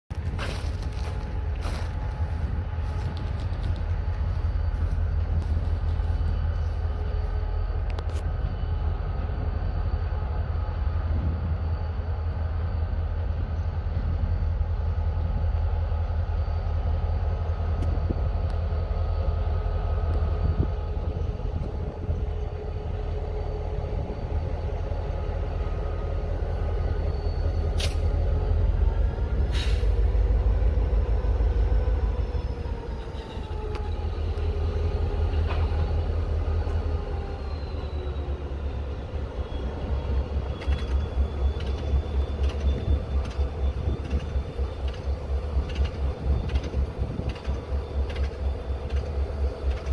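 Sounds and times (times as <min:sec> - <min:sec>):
diesel locomotive engine rumble: 0:00.0 - 0:49.9.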